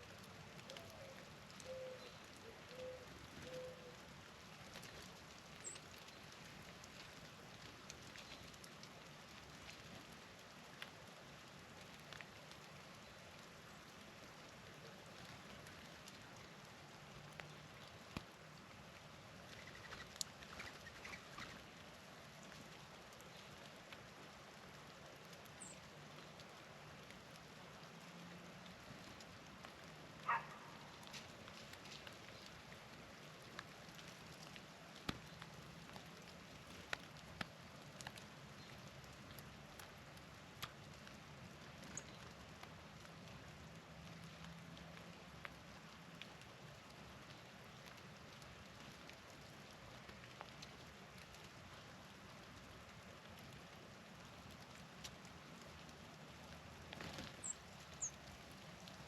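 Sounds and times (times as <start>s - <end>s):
rain pattering: 0.0s - 59.0s
light ticks: 0.1s - 18.7s, 19.4s - 51.8s, 52.5s - 59.0s.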